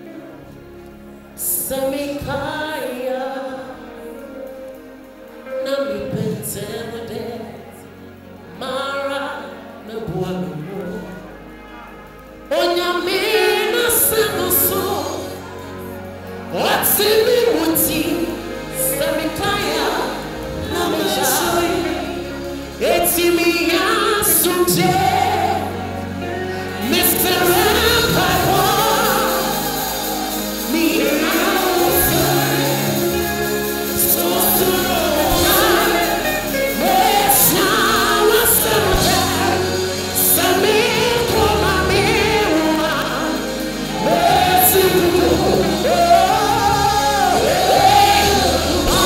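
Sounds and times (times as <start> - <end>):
keyboard: 0.0 - 49.0
sustained bass notes: 3.6 - 49.0.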